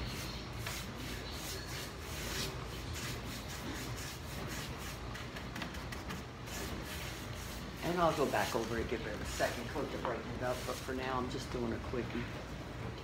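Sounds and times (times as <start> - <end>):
paintbrush swishing: 0.0 - 11.1.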